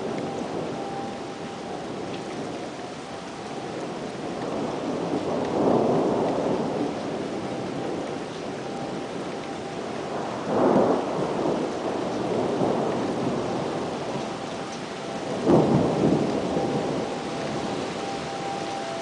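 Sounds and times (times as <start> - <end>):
rolling thunder: 0.0 - 19.0
steady rain: 0.0 - 19.0.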